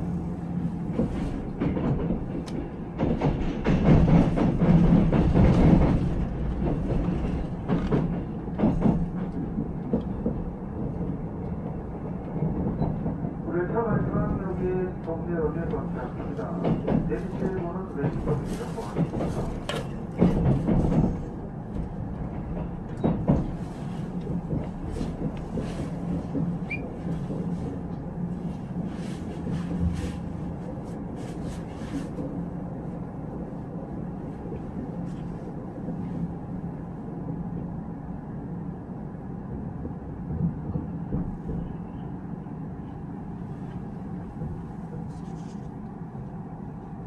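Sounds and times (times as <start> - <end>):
train running gear rumble: 0.0 - 47.0.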